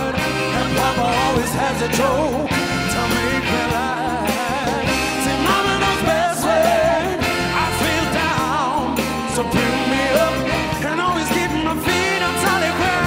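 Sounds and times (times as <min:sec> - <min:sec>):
live band playing: 0:00.0 - 0:13.0
man singing with vibrato: 0:00.0 - 0:13.0.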